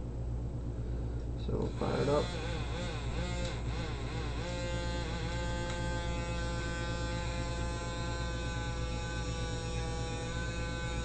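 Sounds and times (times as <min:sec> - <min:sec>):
small motor whining: 0:01.6 - 0:11.0.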